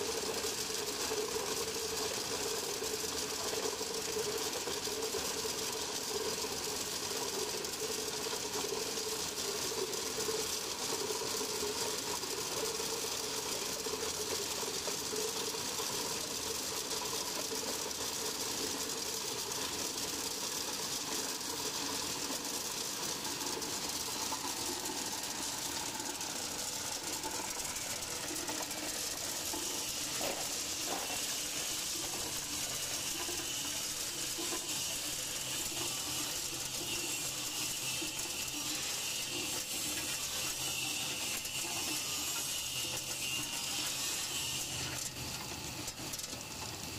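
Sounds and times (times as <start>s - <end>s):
ice machine compressor hum: 0.0s - 46.9s.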